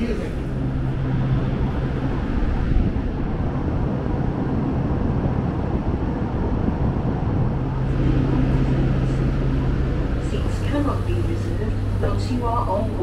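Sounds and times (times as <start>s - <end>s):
electric train humming: 0.0s - 13.0s.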